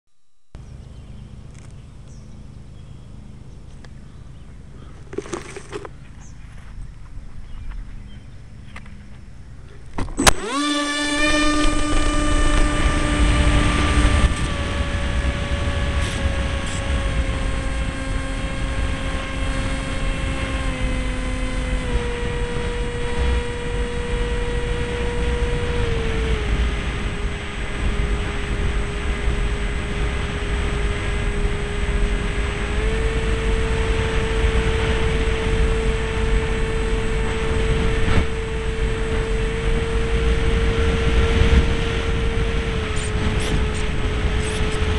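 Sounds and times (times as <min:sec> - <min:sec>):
model plane motor whining: 0:00.5 - 0:06.4, 0:08.6 - 0:44.9
wind rumble on microphone: 0:00.6 - 0:44.9.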